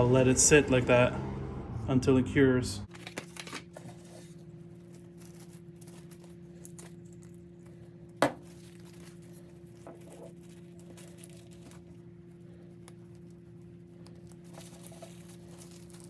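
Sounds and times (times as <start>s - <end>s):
steady low hum: 0.0s - 16.0s
plastic wrap crinkling: 2.9s - 16.0s.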